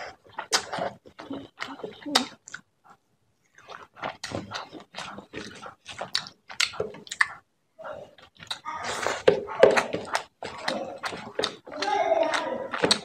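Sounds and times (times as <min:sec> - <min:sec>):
wet chewing and lip-smacking: 0:00.0 - 0:13.0.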